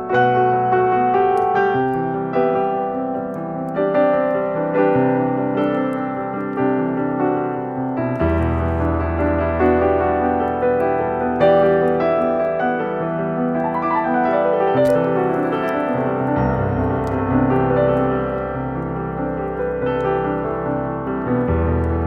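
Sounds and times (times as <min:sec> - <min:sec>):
soft keyboard music: 0:00.0 - 0:22.0.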